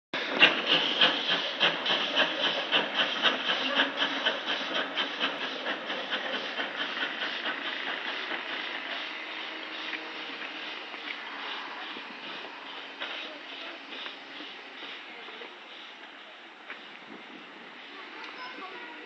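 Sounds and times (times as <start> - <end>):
steam locomotive chuffing: 0.2 - 19.0.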